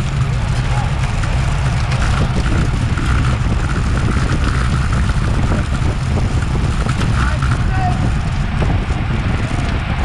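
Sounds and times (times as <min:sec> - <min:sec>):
road and tyre noise: 0:00.0 - 0:10.0
wind buffeting microphone: 0:00.0 - 0:10.0.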